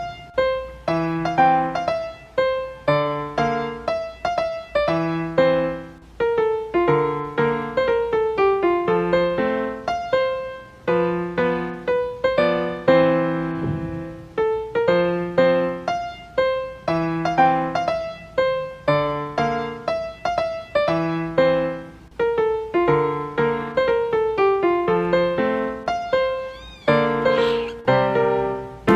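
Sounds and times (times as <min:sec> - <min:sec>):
gentle piano music: 0:00.0 - 0:28.9.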